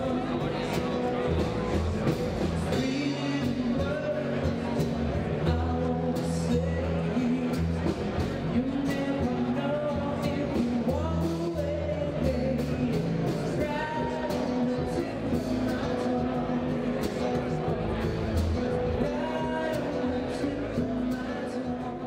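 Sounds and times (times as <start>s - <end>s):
bass line: 0.0s - 22.0s
drums: 0.0s - 22.0s
person singing: 0.0s - 22.0s.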